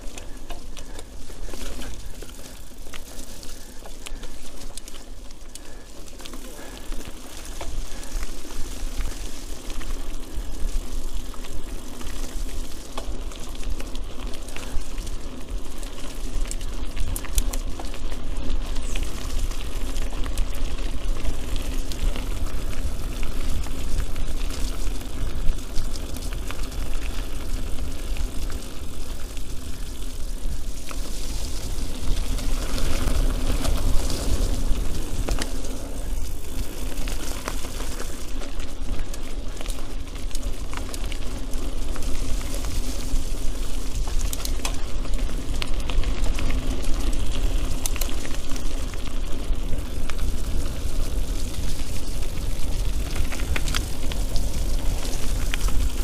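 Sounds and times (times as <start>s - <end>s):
rolling and wind rumble: 0.0s - 56.0s.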